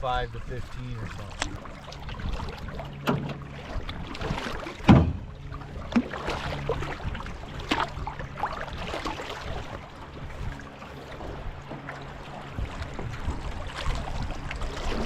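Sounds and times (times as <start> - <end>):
paddles splashing in water: 0.0 - 15.0
steady water noise: 0.0 - 15.0.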